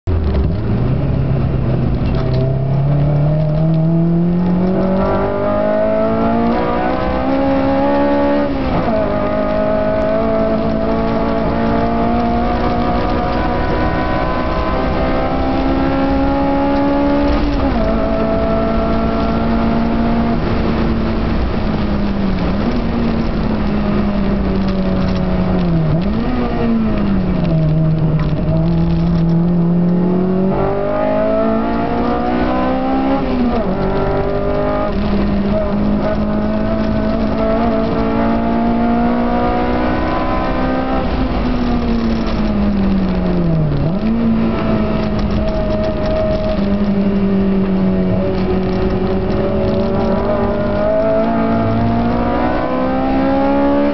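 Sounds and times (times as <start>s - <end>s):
car engine accelerating: 0.1s - 53.9s.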